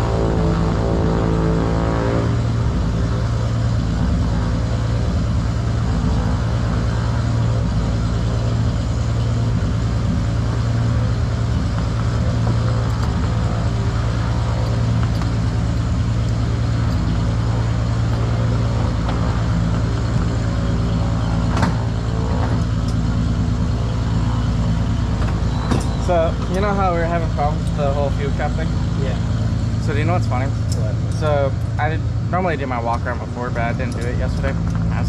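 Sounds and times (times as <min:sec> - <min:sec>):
low mechanical drone: 0:00.0 - 0:35.0.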